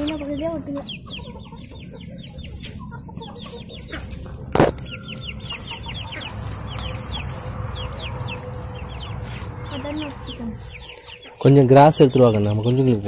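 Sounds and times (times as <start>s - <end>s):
young chickens peeping: 0.0s - 13.0s.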